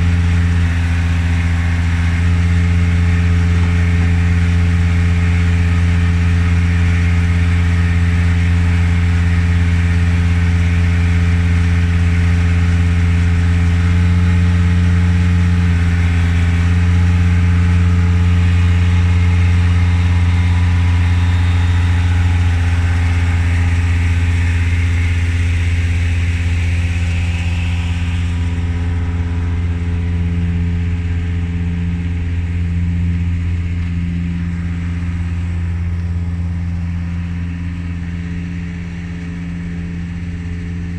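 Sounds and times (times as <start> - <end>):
engine running with low hum: 0.0 - 40.9.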